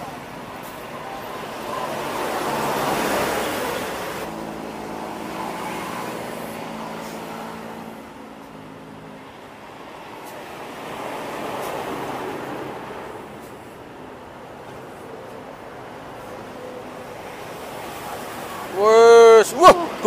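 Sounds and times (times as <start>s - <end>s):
vehicle engine hum: 0.0s - 20.0s
vehicles passing: 0.0s - 20.0s.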